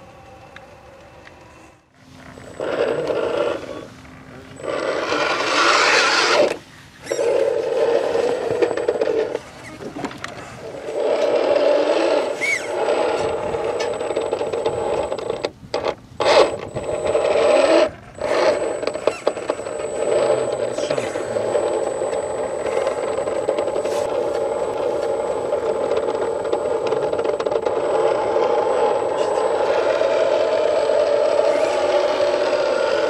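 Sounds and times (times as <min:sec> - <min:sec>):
electric motor whining: 0:00.0 - 0:33.0.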